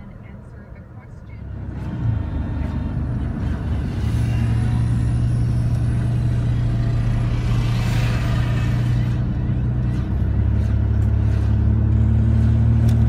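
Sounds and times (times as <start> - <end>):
car engine and road rumble: 0.0 - 13.0
steady deep hum: 0.0 - 13.0.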